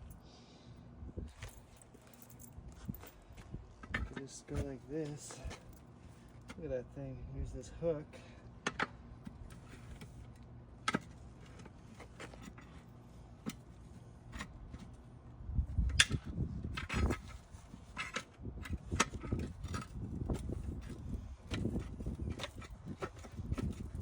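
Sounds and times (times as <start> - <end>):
low rumbling handling noise: 0.9 - 24.0.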